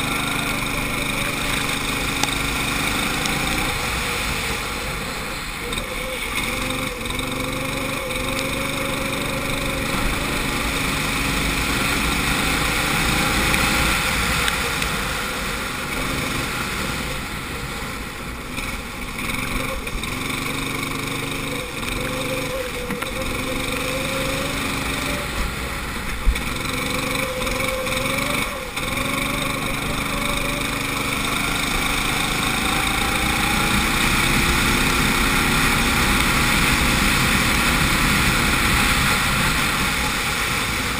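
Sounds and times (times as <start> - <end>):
kart engine revving: 0.0 - 40.9
wind and road noise: 0.0 - 40.9.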